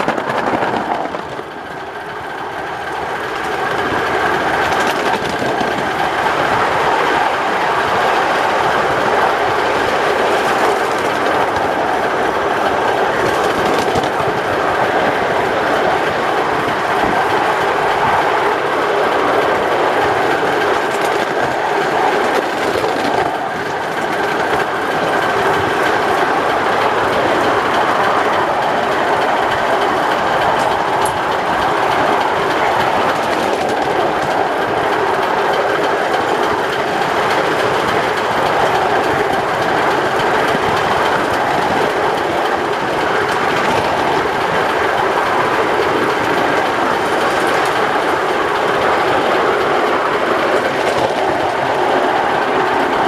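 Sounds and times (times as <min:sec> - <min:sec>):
model steam locomotive running: 0:00.0 - 0:53.0.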